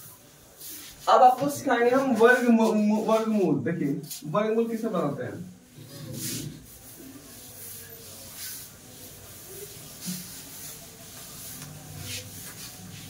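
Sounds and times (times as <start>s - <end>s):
duster wiping a chalkboard: 0.0s - 13.0s.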